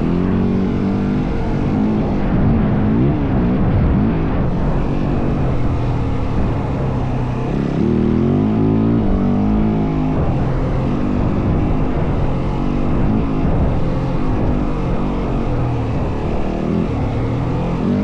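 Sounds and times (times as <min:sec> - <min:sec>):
dirt bike engine running: 0:00.0 - 0:18.0
steady rush of noise: 0:00.0 - 0:18.0.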